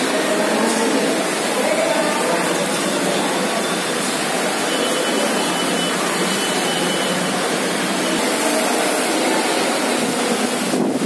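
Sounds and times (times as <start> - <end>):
railway station ambience: 0.0 - 11.0.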